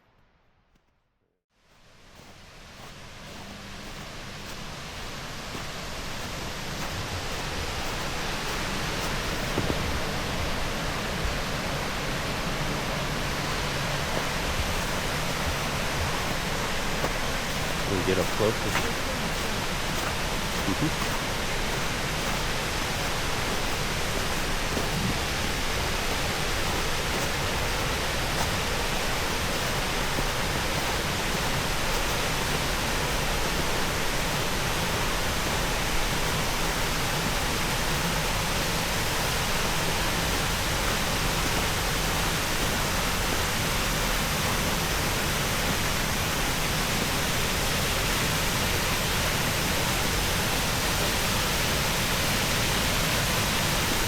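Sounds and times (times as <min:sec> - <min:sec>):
waterfall rushing: 0:02.1 - 0:54.0.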